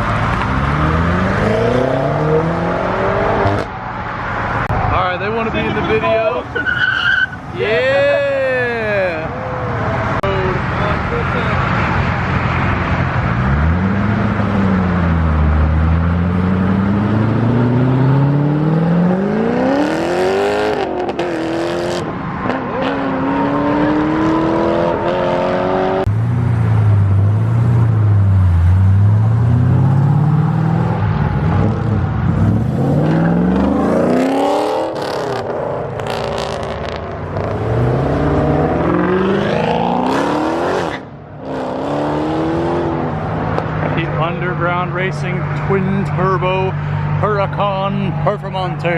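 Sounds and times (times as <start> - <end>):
car engines revving and accelerating: 0.0 - 48.9.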